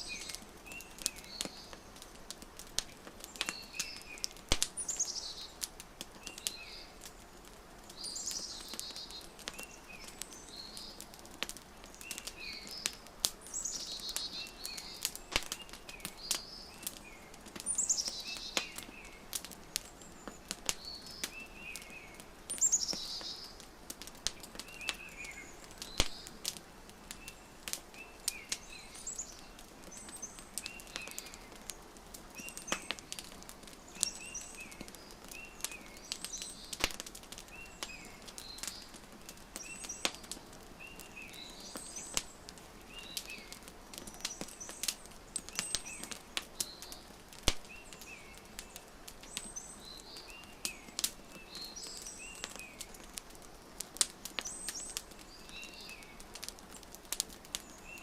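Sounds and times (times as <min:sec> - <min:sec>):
small birds chirping: 0:00.0 - 0:58.0
wood fire crackling: 0:00.0 - 0:58.0.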